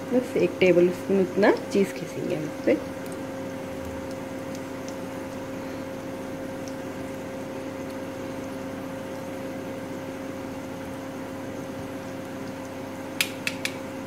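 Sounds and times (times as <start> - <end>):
fan noise: 0.0 - 14.0
induction cooktop humming: 0.0 - 14.0.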